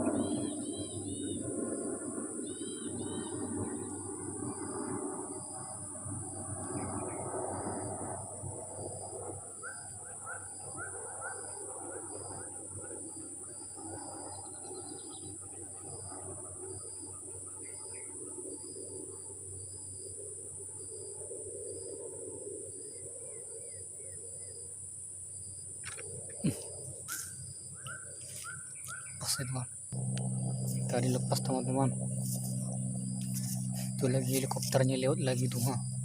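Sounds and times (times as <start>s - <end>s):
insects droning and chirping: 0.0s - 36.0s
low steady rumble: 0.0s - 36.0s.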